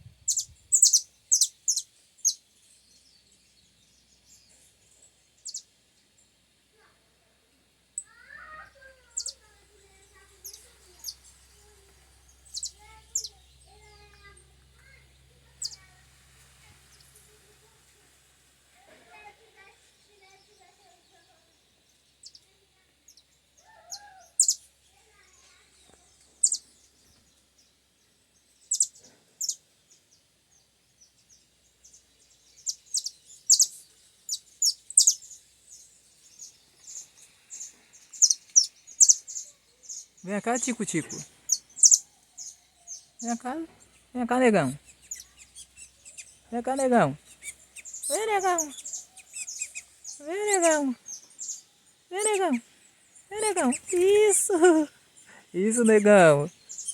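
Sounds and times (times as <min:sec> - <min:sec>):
songbird chirping: 0:00.0 - 0:56.9.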